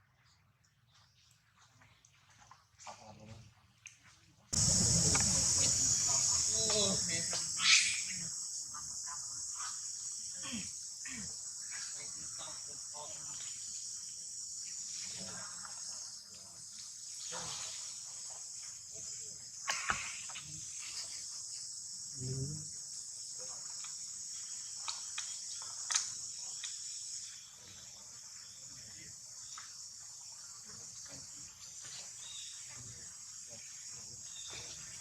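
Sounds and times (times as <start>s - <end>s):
insect chorus chirring: 4.6s - 35.0s.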